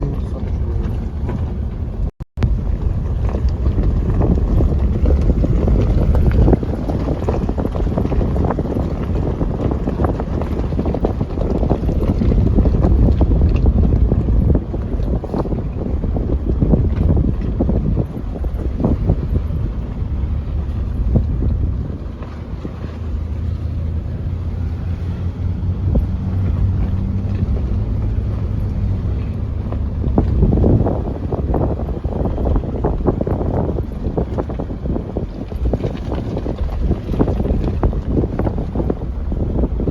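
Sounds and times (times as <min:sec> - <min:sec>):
engine and road drone: 0:00.0 - 0:39.9
wind buffeting microphone: 0:00.0 - 0:39.9.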